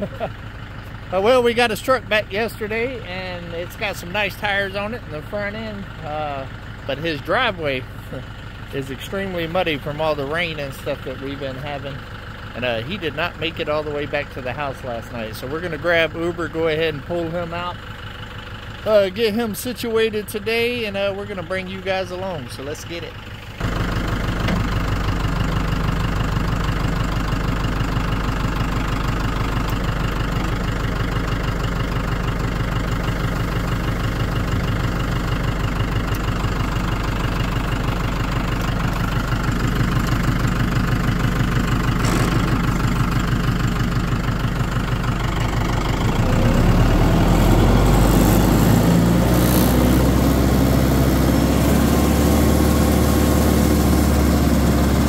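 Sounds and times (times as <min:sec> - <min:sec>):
tractor engine idling and revving: 0:00.0 - 0:55.0.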